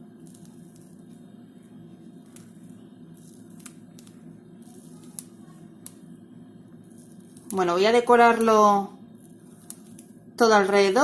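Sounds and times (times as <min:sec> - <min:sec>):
plastic piping bag squeezing: 0:00.0 - 0:10.4
room noise hum: 0:00.0 - 0:11.0.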